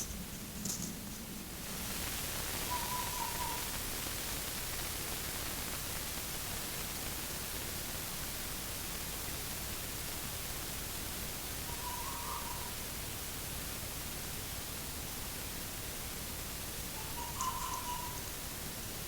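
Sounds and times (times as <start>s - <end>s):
microphone hiss: 0.0s - 19.0s.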